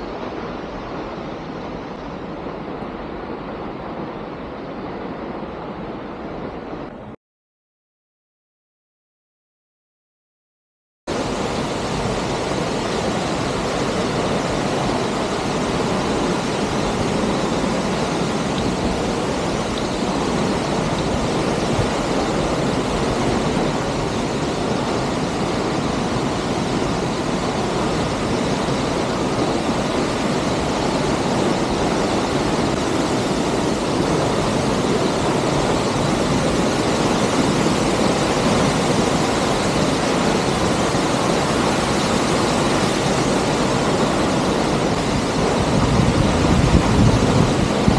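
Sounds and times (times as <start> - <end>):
waterfall rushing: 0.0 - 7.1, 11.1 - 47.9.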